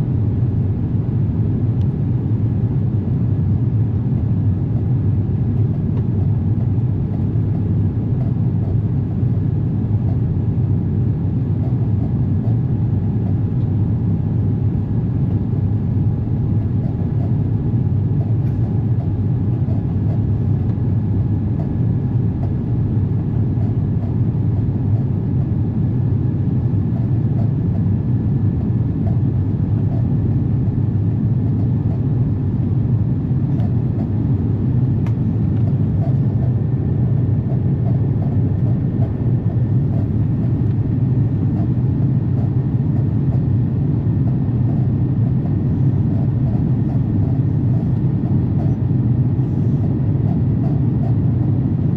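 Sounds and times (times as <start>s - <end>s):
jet engine and airflow drone: 0.0s - 51.9s.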